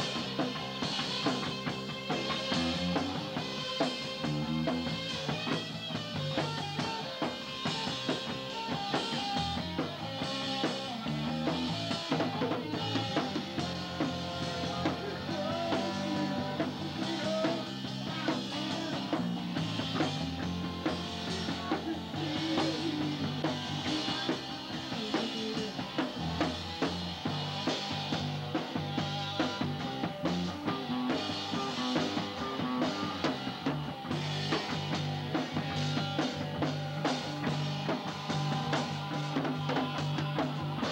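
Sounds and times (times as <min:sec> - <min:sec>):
bass guitar: 0:00.0 - 0:40.9
drum kit with cymbals: 0:00.0 - 0:40.9
electric guitar lines: 0:00.0 - 0:40.9.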